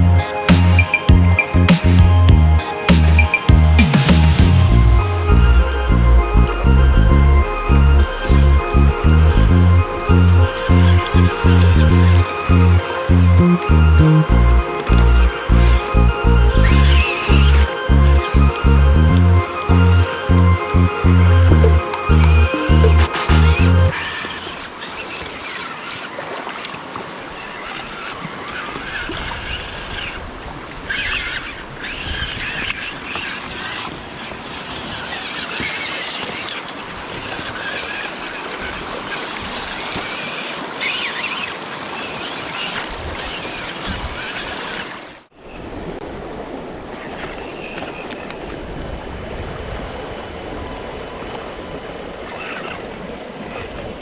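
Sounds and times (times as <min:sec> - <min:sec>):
stream water rushing and splashing: 0:00.0 - 0:54.0.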